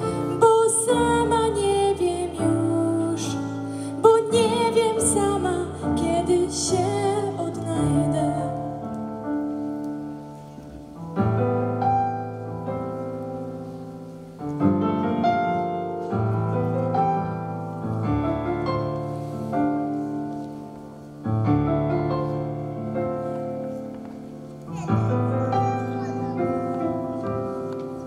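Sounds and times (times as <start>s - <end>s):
piano chords ringing: 0.0s - 28.0s.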